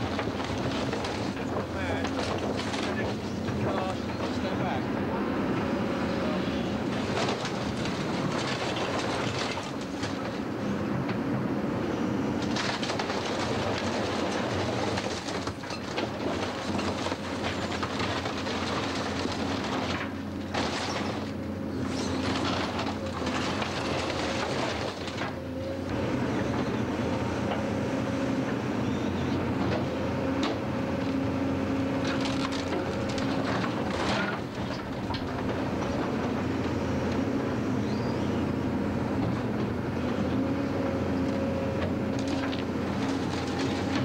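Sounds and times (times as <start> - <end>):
metal and timber crunching: 0.0 - 4.8, 6.7 - 11.2, 12.3 - 44.0
excavator diesel engine running: 0.0 - 44.0.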